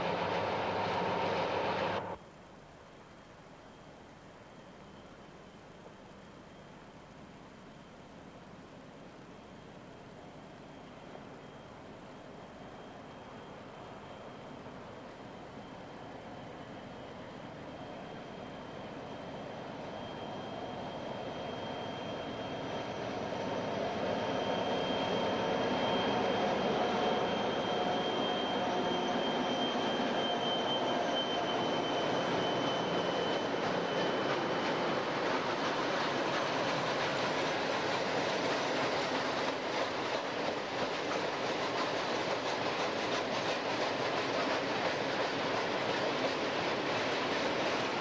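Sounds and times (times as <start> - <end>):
diesel locomotive passing: 0.0 - 2.2, 9.4 - 48.0.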